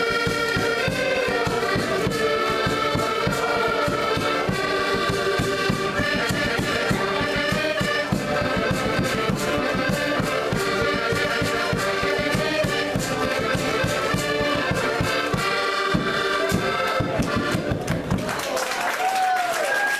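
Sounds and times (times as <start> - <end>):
button accordions playing chords: 0.0 - 18.2
bass drum beating: 0.0 - 18.3.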